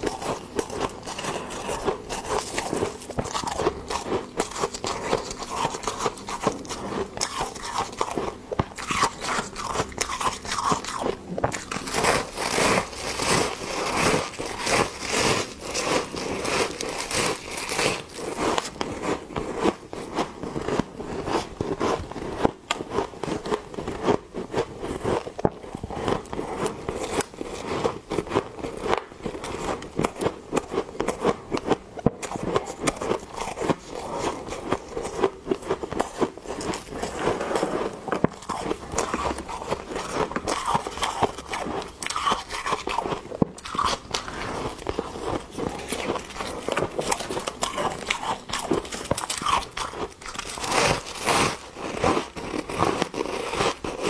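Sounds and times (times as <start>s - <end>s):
ice being chewed crunching: 0.0s - 54.0s.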